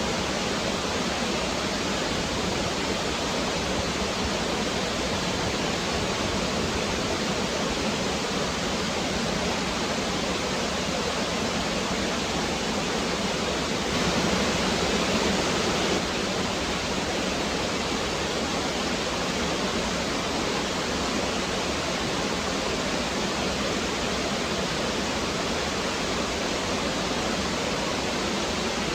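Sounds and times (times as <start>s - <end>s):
stream water rushing: 0.0s - 28.9s.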